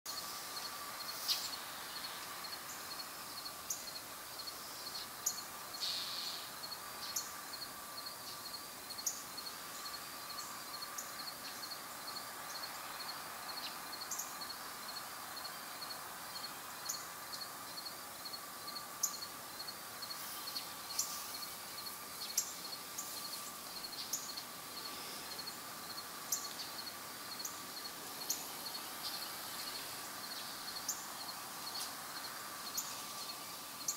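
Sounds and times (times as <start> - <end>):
background hiss: 0.0 - 33.9
small birds chirping: 0.1 - 33.9.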